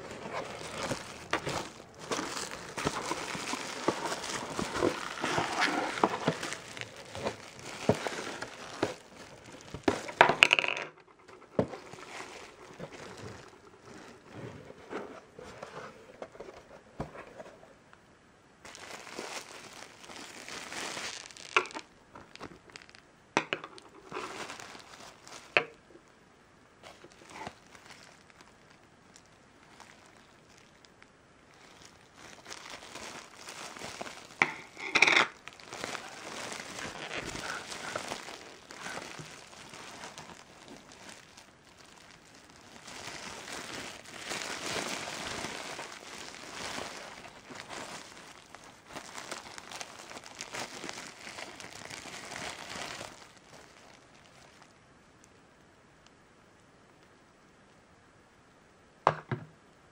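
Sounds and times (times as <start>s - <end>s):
bubble wrap crinkling and crackling: 0.0s - 17.8s, 18.6s - 55.4s.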